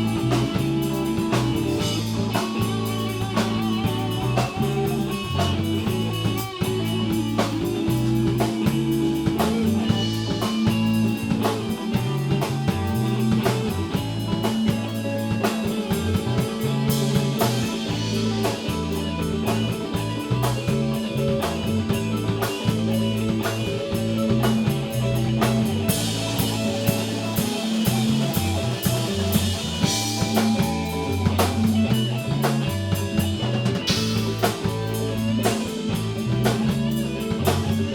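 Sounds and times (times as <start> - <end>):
rock band playing: 0.0 - 37.9.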